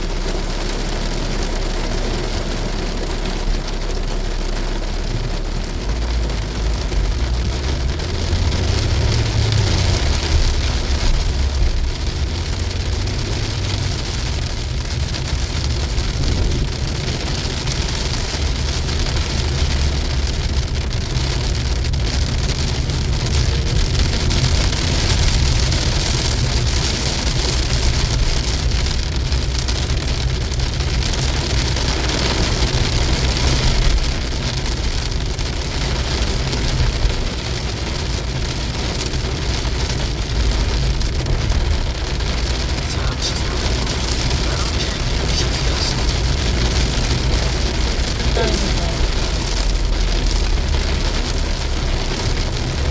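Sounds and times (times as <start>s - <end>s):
engine and road rumble: 0.0s - 52.9s
heavy rain drumming on car: 0.0s - 52.9s.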